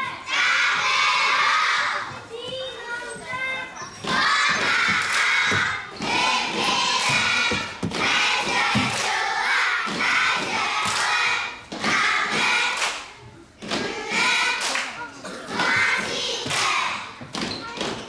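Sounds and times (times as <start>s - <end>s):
children chanting in unison: 0.0s - 2.2s, 4.0s - 17.2s.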